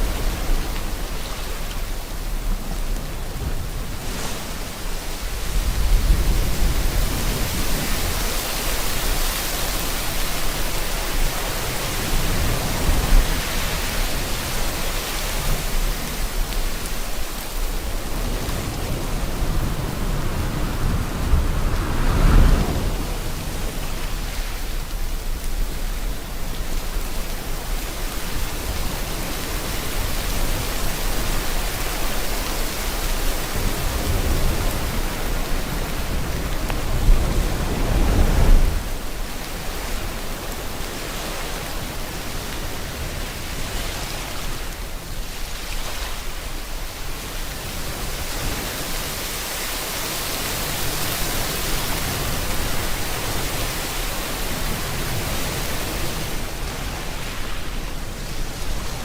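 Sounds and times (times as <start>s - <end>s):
steady rain hiss: 0.0s - 59.0s
ocean waves crashing: 3.0s - 25.6s, 27.4s - 59.0s.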